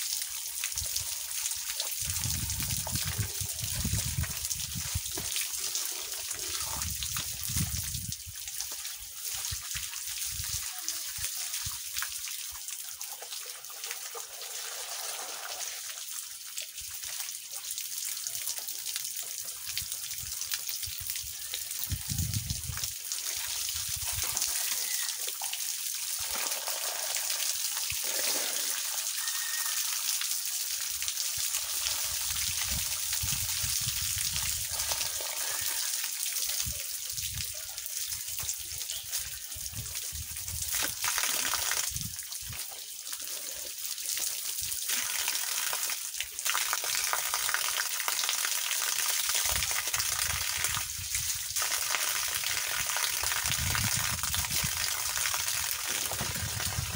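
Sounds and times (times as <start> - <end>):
hose water splashing: 0.0 - 56.9.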